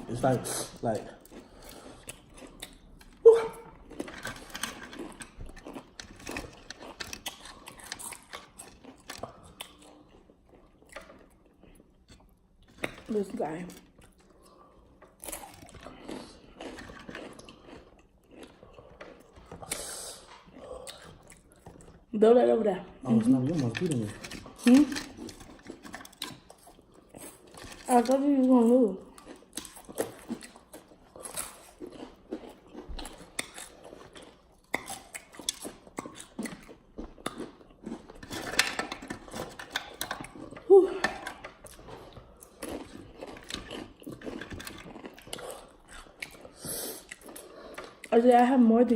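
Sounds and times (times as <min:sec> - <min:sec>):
chips crunching while chewed: 0:00.0 - 0:22.1, 0:23.1 - 0:48.2.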